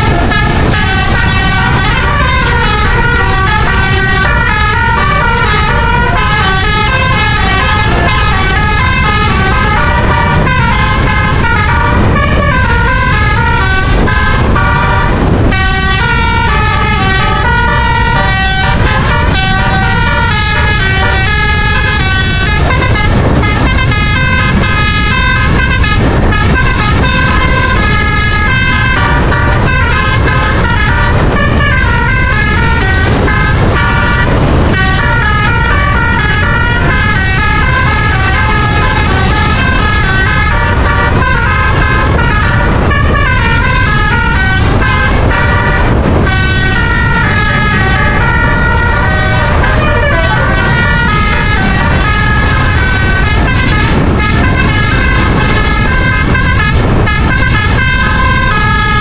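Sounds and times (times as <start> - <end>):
low rumble of road and wind: 0.0 - 59.0
musical air horn tune: 0.0 - 59.0.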